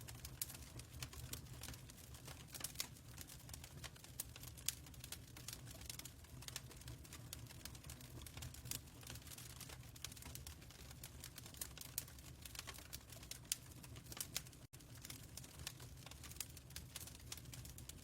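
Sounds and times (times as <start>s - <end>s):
fireplace crackling and popping: 0.0s - 18.0s
low rumble of fire: 0.0s - 18.0s.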